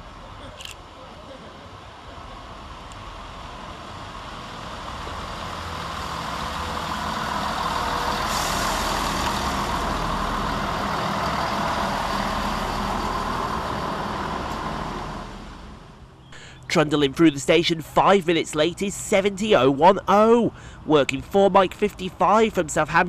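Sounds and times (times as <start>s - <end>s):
diesel train passing: 0.0s - 23.0s.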